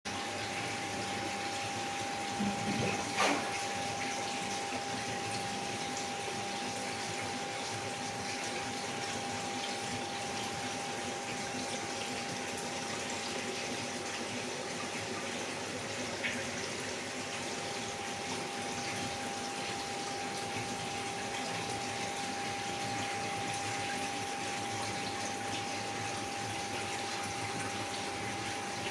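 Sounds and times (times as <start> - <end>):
aquarium water splashing: 0.1 - 28.9.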